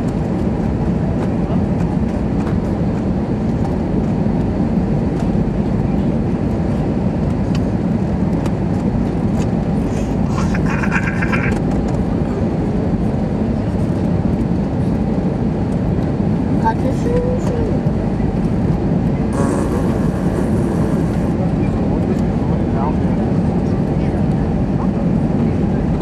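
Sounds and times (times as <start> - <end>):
airliner cabin engine roar: 0.0 - 26.0.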